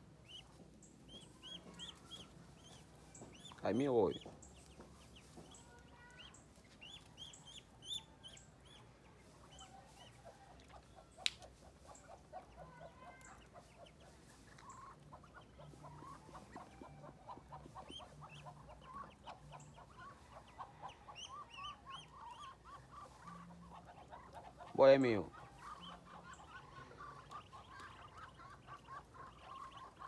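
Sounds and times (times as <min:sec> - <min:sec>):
ducklings peeping: 0:00.1 - 0:30.0.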